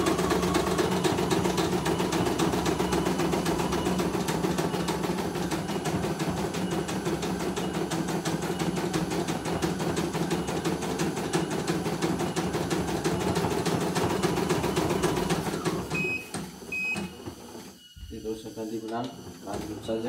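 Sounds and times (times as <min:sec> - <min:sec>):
embroidery machine stitching: 0:00.0 - 0:17.7, 0:18.6 - 0:20.0.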